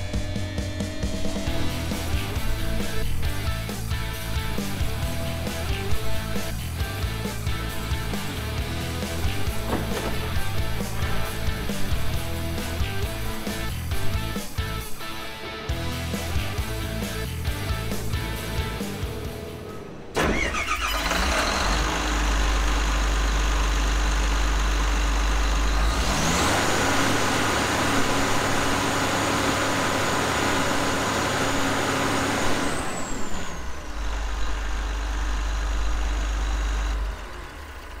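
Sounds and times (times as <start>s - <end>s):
diesel excavator engine: 0.0s - 38.0s.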